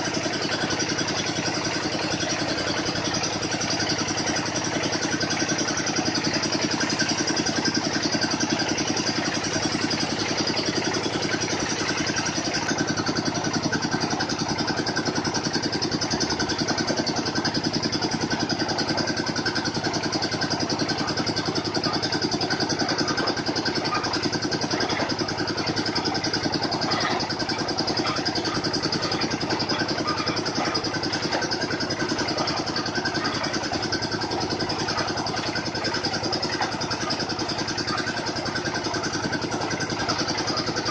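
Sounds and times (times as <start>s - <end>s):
drilling machine engine running: 0.0s - 40.9s.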